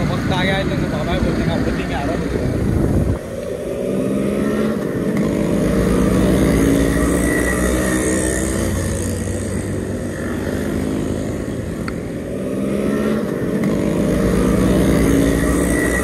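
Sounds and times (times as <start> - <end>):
motorcycles riding past: 0.0 - 16.0.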